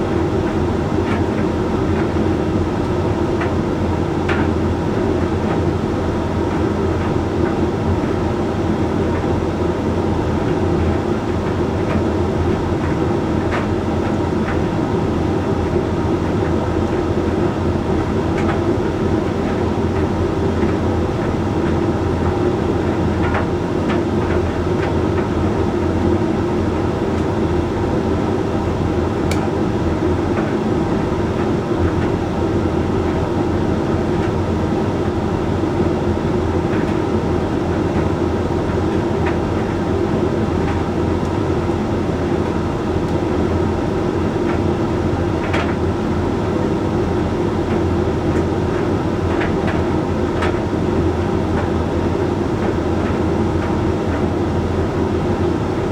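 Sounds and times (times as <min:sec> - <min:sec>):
tumble dryer motor and fan hum: 0:00.0 - 0:55.9.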